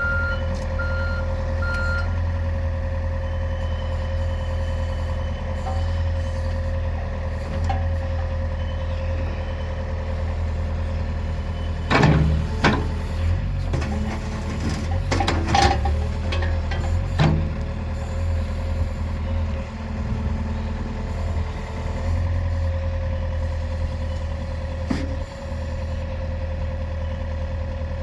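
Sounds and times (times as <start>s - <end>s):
excavator engine whining: 0.0s - 28.0s.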